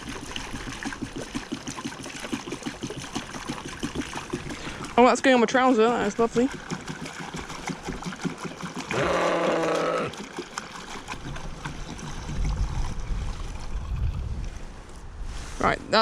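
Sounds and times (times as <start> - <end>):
fuel trickling into a tank: 0.0 - 15.2.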